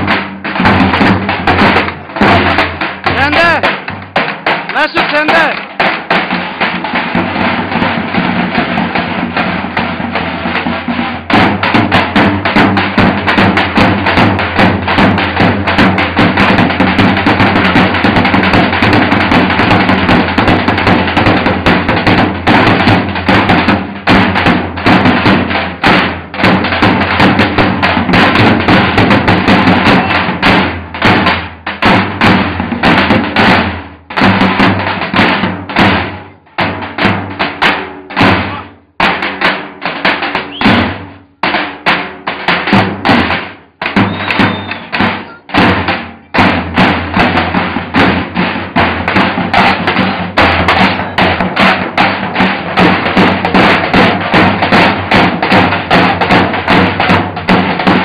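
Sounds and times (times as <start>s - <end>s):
bass drums beaten: 0.0s - 58.0s.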